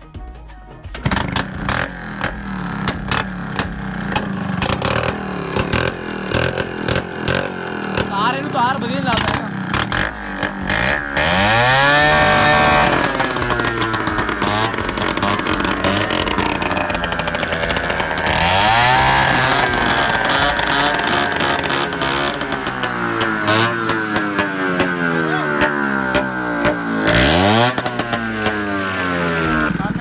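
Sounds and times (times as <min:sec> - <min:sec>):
scooter engine revving loudly: 0:00.0 - 0:30.0.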